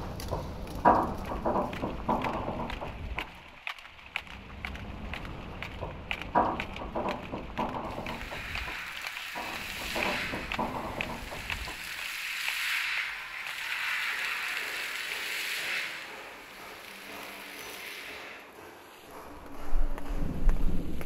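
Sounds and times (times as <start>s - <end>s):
scattered clicks and crackles: 0.0s - 21.0s.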